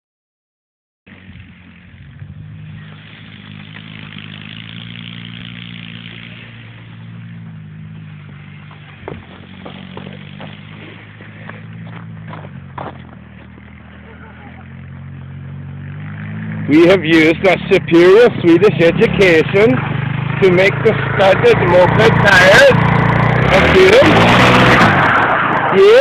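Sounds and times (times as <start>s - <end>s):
moped engine running: 1.1s - 24.8s.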